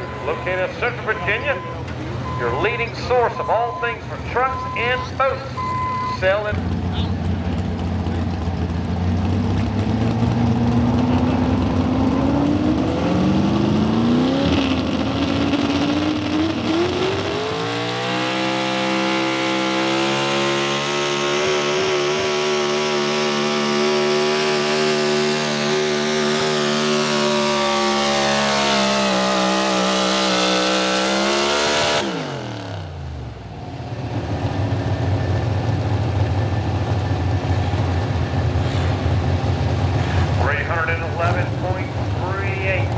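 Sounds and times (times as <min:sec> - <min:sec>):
truck engine revving at full throttle: 0:00.0 - 0:42.9.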